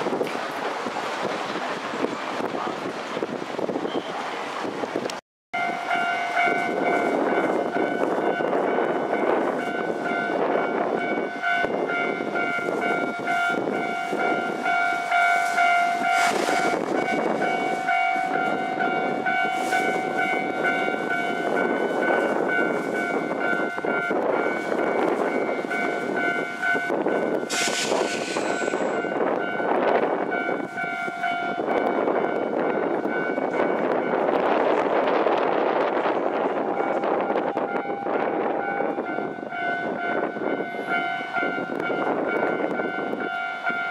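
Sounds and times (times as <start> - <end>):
train rolling noise: 0.0 - 43.9.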